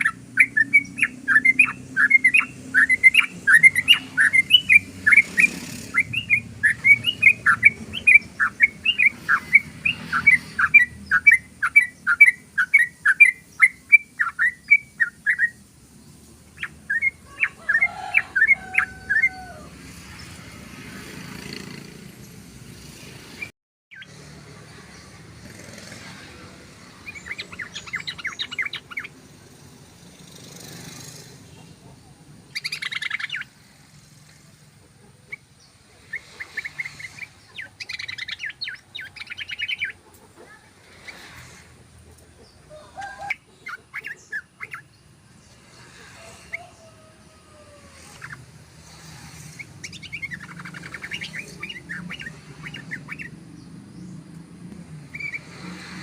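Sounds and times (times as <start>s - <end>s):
bird singing rapid chattering notes: 0.0s - 20.5s, 23.4s - 40.0s, 42.2s - 45.7s, 48.0s - 56.0s.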